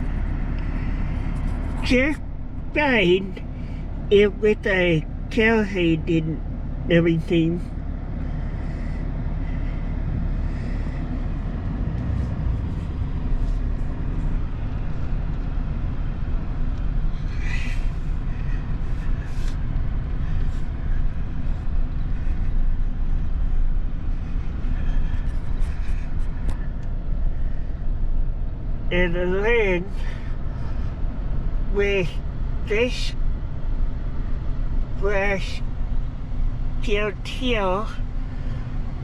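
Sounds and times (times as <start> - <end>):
vehicle engine rumble: 0.0 - 39.0.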